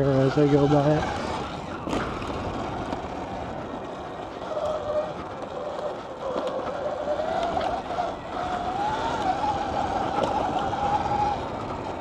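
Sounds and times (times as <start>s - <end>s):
dirt bike drivetrain whine: 0.0s - 12.0s
wind: 0.0s - 12.0s.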